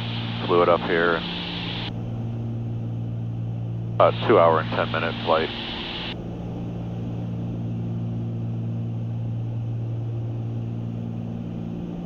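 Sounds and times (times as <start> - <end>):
airplane engines droning in cabin: 0.0 - 12.0.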